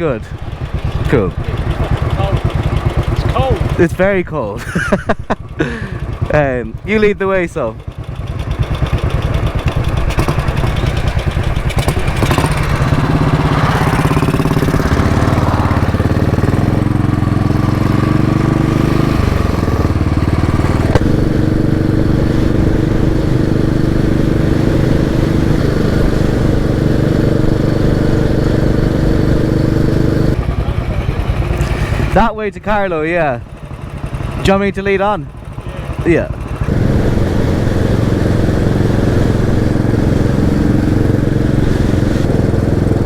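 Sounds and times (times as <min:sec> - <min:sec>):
motorcycle engine accelerating: 0:00.0 - 0:43.0.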